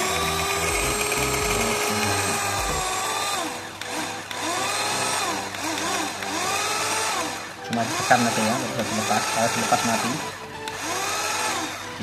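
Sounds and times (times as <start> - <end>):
small electric motor whine: 0.0 - 12.0.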